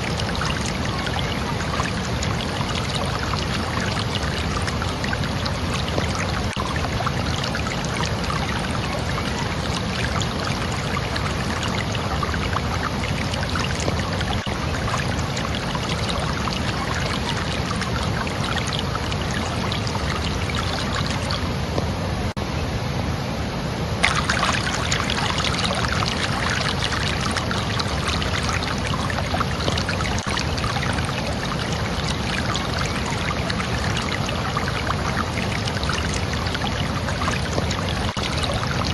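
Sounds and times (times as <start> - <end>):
running water splashing: 0.0 - 21.9, 24.0 - 38.9.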